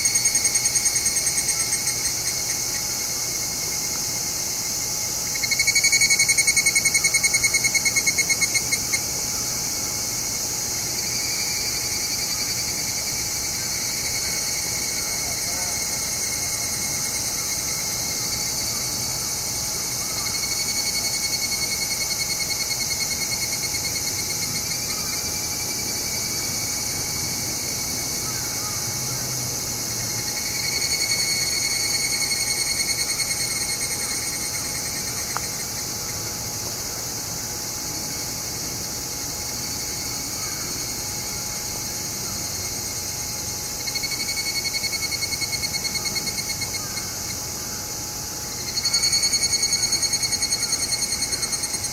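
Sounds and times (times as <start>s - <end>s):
cicadas trilling: 0.0s - 51.9s
steady high hiss: 0.0s - 51.9s.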